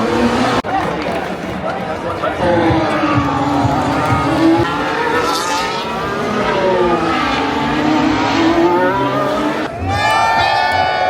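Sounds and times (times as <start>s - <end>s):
racing car engines passing: 0.0s - 11.0s.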